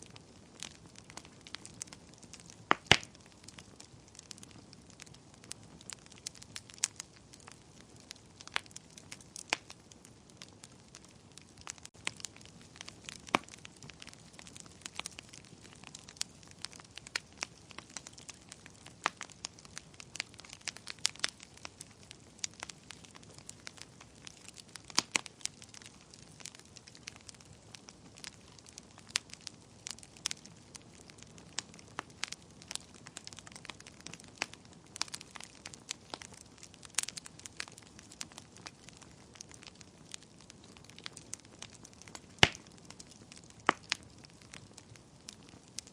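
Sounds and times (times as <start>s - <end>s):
faint steady hiss: 0.0s - 45.9s
sharp pops from fire: 0.0s - 45.9s
wood fire crackling: 0.0s - 45.9s.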